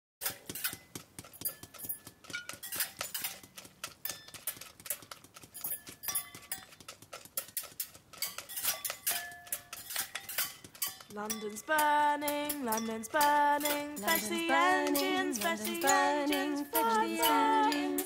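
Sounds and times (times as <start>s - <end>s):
kitchen utensils knocking and clinking: 0.2s - 6.8s, 7.4s - 18.0s.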